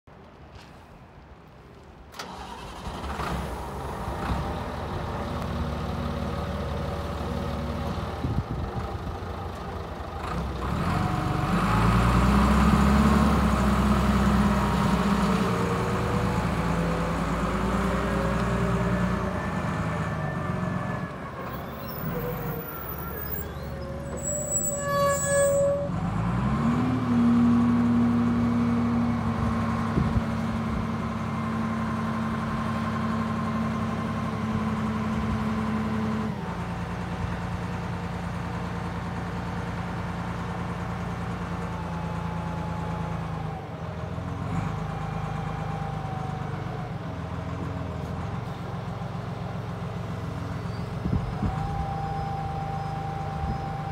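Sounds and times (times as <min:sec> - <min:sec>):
diesel forklift engine running: 0:02.2 - 0:53.9.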